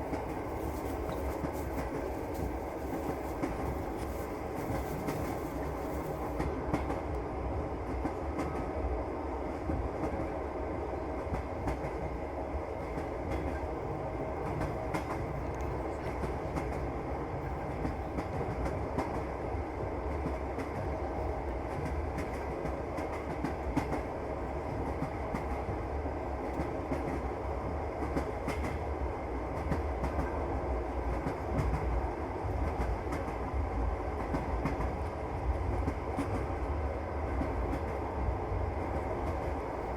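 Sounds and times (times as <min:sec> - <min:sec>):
wheels clickety-clack over rail joints: 0:00.0 - 0:08.8, 0:09.5 - 0:39.9
train carriage rumble: 0:00.0 - 0:39.9.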